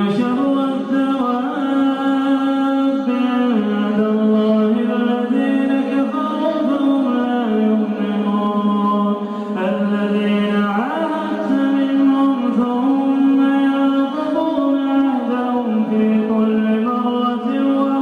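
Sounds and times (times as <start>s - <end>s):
man chanting recitation: 0.0s - 18.0s.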